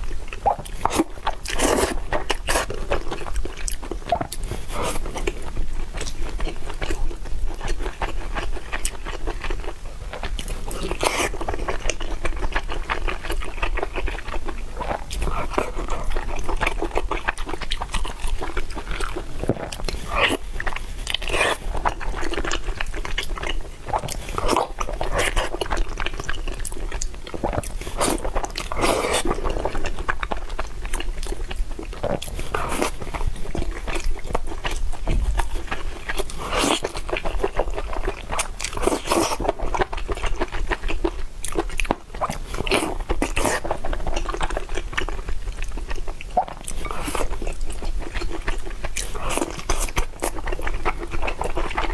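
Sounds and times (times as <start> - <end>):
person chewing and biting: 0.3 - 51.9.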